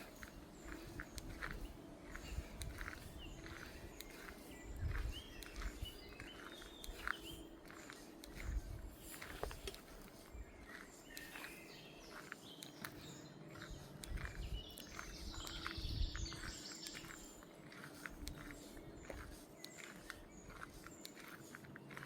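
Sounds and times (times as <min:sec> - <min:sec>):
birds chirping and singing: 0:00.0 - 0:22.0
footsteps on a path: 0:00.0 - 0:22.0.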